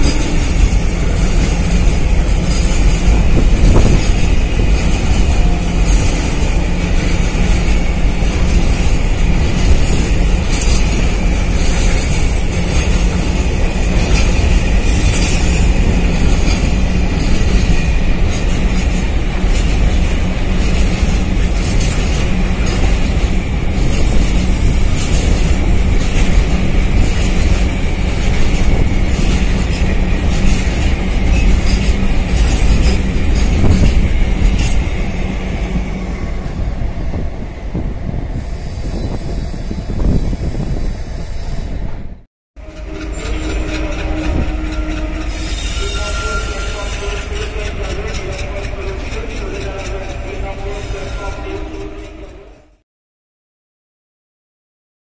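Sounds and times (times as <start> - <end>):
train wheels rumbling on rail: 0.0 - 52.8.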